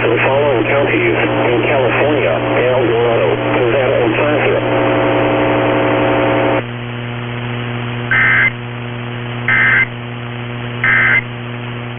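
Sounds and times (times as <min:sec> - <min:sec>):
low hum and hiss: 0:00.0 - 0:11.9
steady buzzing tone: 0:00.0 - 0:11.9.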